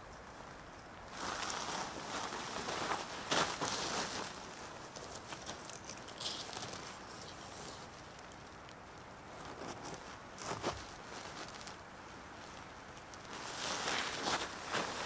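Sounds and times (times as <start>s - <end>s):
tent fabric rustling: 1.1s - 7.9s, 9.4s - 15.0s.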